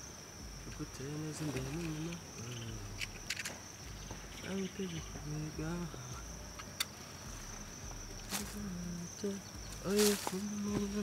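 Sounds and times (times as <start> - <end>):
high insect trill: 0.0 - 11.0.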